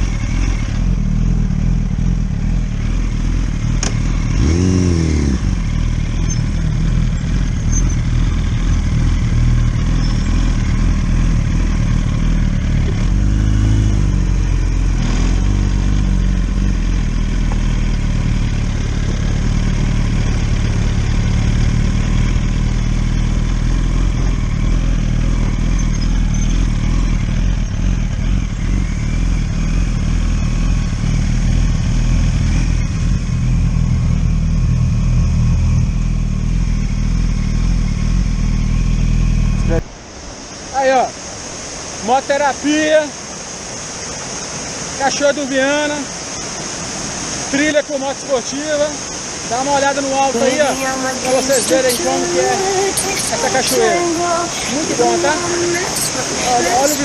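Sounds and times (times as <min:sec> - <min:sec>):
motorcycle engine running: 0:00.0 - 0:39.9, 0:48.6 - 0:57.0.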